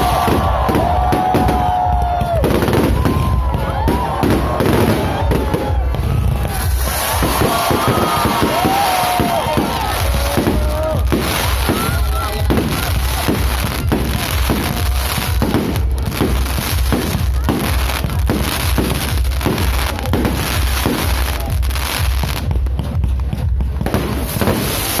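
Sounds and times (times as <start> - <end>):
fireworks bangs: 0.0 - 25.0
fireworks crackling: 0.0 - 25.0
music playing: 0.0 - 25.0.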